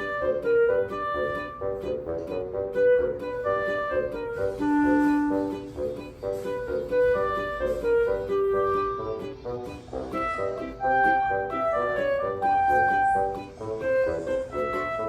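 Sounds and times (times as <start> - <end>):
flute-like melody: 0.0 - 15.0
plucked accompaniment: 0.0 - 15.0.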